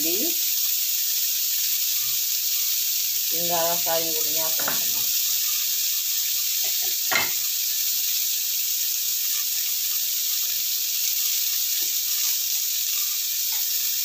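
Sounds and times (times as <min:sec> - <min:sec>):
vegetables sizzling in frying pan: 0:00.0 - 0:14.0.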